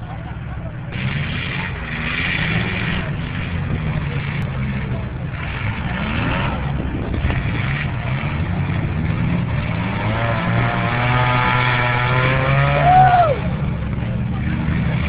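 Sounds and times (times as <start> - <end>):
car engines droning: 0.0 - 15.0.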